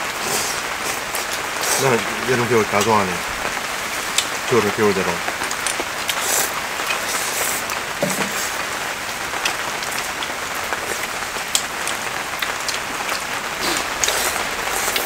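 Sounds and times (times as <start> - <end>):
steady rain falling: 0.0 - 15.0
sharp taps of raindrops: 1.1 - 15.0.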